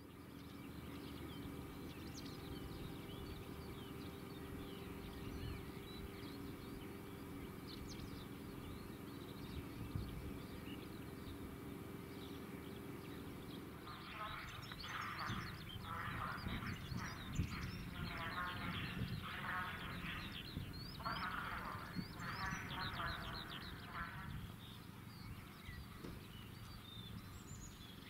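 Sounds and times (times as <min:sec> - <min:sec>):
low outdoor rumble: 0:00.0 - 0:28.0
songbirds chirping: 0:00.0 - 0:28.0.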